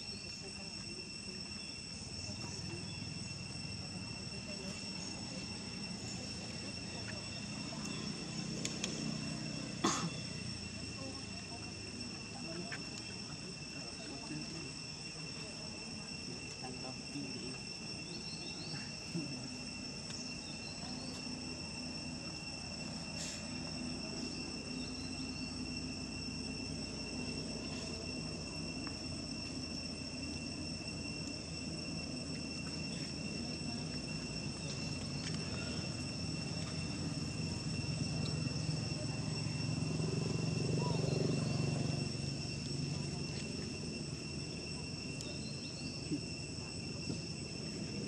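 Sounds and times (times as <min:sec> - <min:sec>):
insect chorus buzzing: 0:00.0 - 0:48.0.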